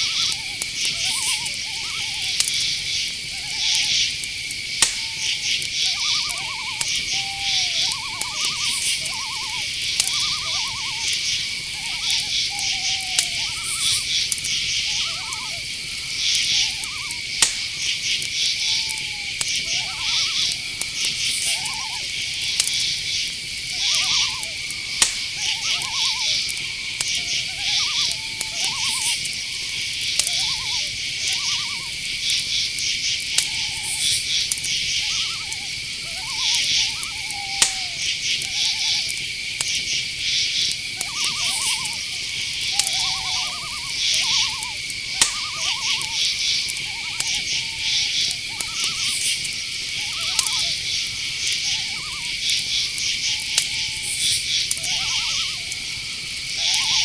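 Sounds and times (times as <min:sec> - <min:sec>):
crickets chirping: 0:00.0 - 0:57.0
high insect drone: 0:00.0 - 0:57.0
short low insect calls: 0:00.0 - 0:57.0
sharp clicks: 0:00.1 - 0:35.6, 0:37.5 - 0:40.0, 0:40.6 - 0:56.8.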